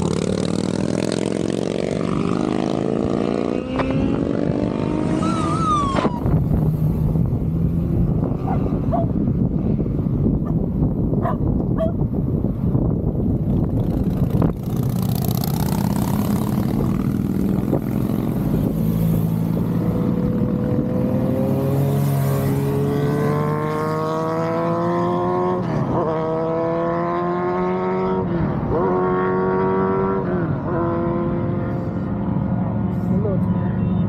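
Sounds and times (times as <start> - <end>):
motorcycles riding past: 0.0 - 12.1, 13.4 - 33.8
motorcycle accelerating through gears: 0.0 - 33.4.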